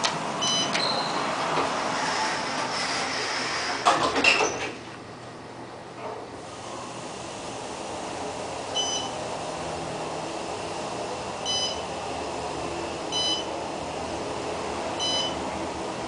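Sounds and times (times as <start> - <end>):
elevator car humming: 0.0 - 16.0.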